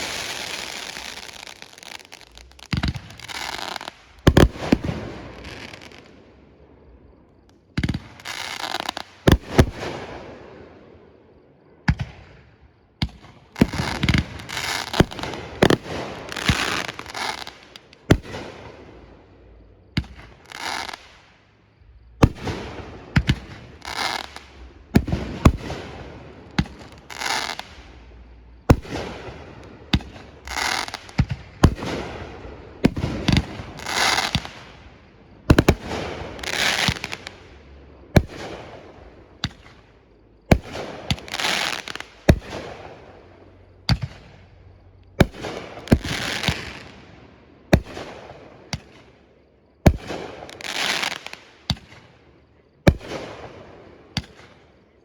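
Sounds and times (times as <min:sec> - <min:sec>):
fireworks bursting: 0:00.0 - 0:06.3, 0:07.1 - 0:10.4, 0:13.0 - 0:19.2, 0:19.9 - 0:39.9, 0:40.5 - 0:44.4, 0:45.1 - 0:49.1, 0:49.9 - 0:52.1
crackling firework trails: 0:00.0 - 0:55.0.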